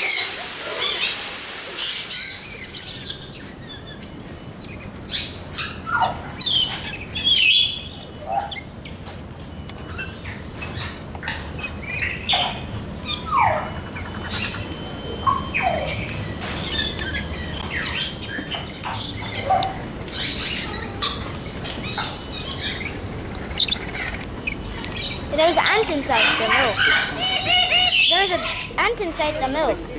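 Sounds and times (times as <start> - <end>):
flock of parrots calling: 0.0 - 8.7, 9.8 - 29.8.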